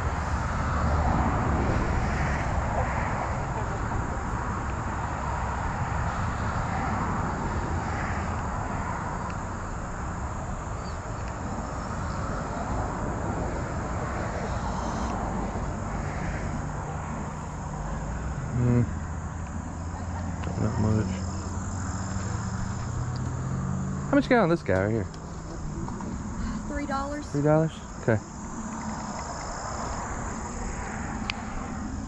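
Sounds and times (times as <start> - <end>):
distant voices: 0.0 - 32.0
insects chirping faintly: 0.0 - 32.0.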